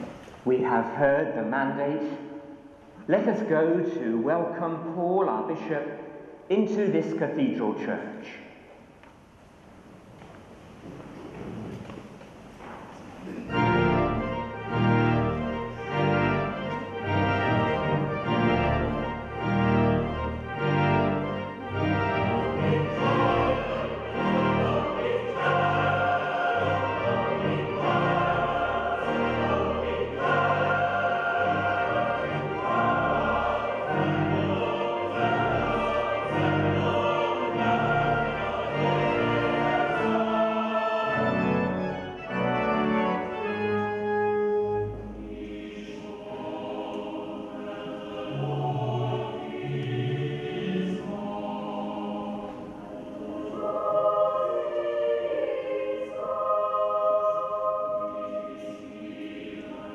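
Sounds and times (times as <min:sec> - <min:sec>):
choir singing: 0:00.0 - 0:04.6, 0:13.2 - 0:59.9.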